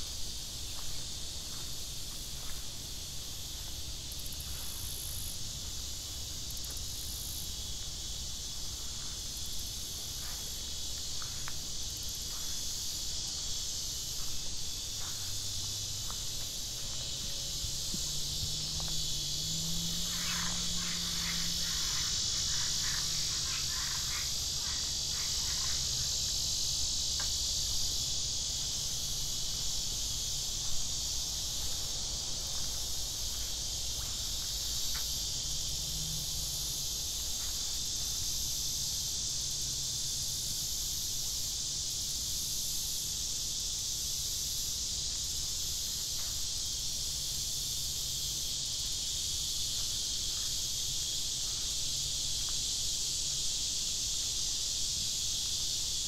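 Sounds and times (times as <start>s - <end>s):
insects buzzing: 0.0s - 56.0s.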